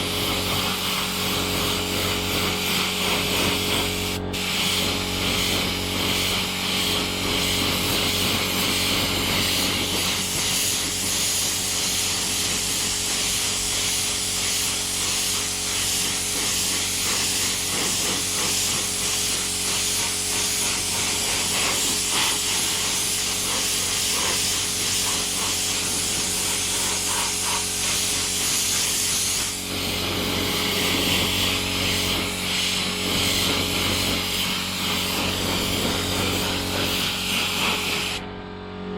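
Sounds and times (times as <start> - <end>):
spray gun hissing: 0.0 - 38.2
steady low hum: 0.0 - 38.9.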